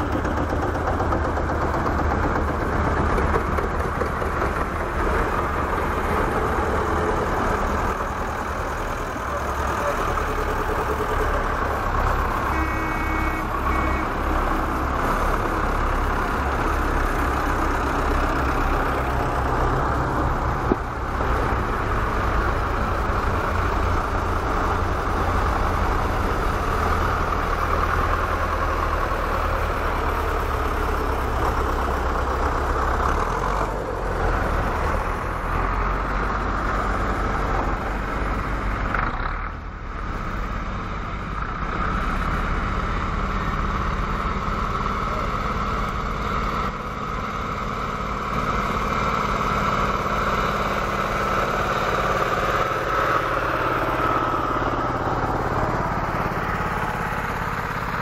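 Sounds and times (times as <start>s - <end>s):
tractor diesel engines: 0.0s - 58.0s.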